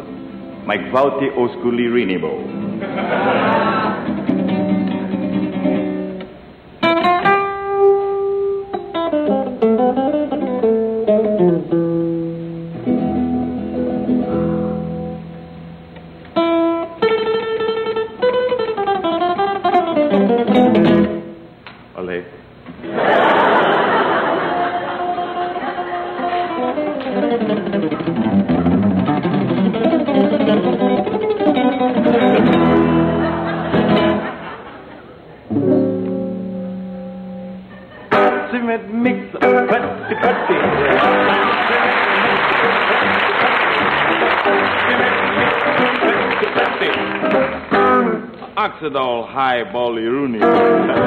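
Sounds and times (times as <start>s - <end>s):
resonator guitar playing: 0.0s - 21.6s, 23.8s - 51.0s.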